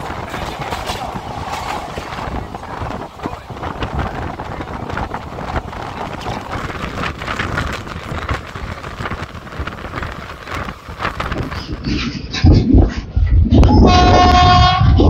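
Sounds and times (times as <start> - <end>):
train wheels rumbling on rails: 0.0 - 15.0
wind noise on microphone: 0.0 - 15.0.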